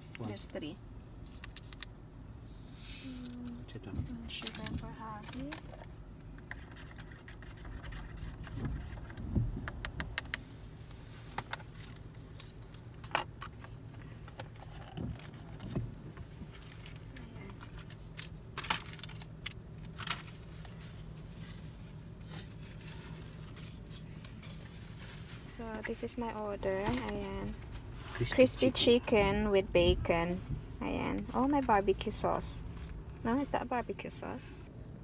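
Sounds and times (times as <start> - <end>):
low hum in car cabin: 0.0 - 35.0.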